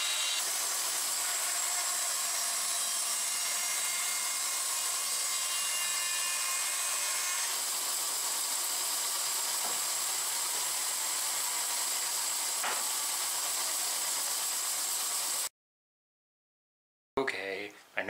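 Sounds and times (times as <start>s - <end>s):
bandsaw cutting and running: 0.0s - 15.5s.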